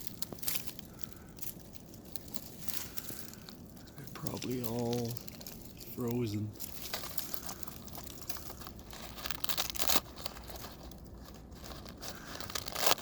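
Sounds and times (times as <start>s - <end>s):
footsteps crunching on trail: 0.0s - 13.0s.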